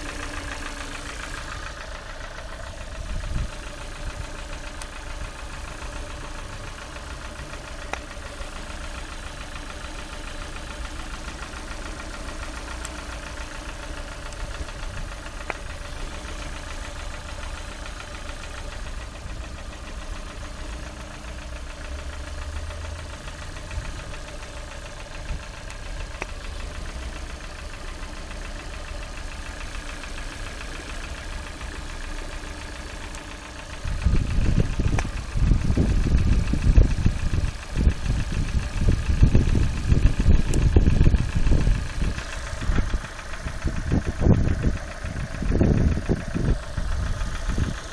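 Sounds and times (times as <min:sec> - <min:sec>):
car engine idling with knock: 0:00.0 - 0:47.9.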